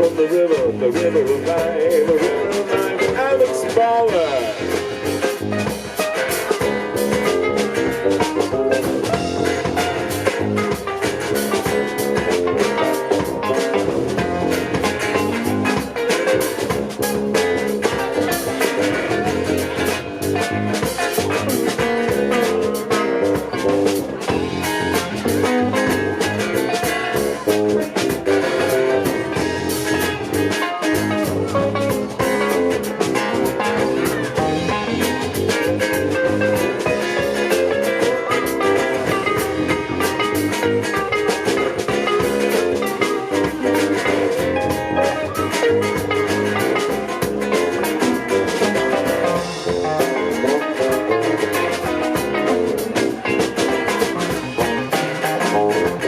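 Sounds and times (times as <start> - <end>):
drum kit beat: 0.0 - 56.0
electric guitar: 0.0 - 56.0.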